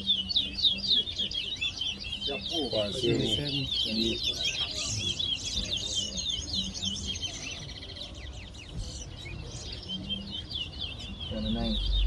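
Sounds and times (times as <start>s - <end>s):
finch singing: 0.0s - 12.0s.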